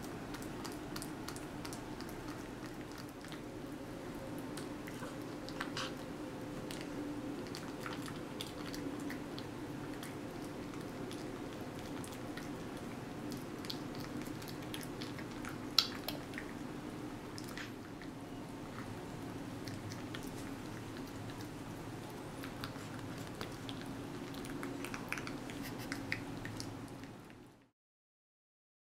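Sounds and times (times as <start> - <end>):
cat chewing and smacking: 0.0 - 27.7
low steady hum: 0.0 - 27.7.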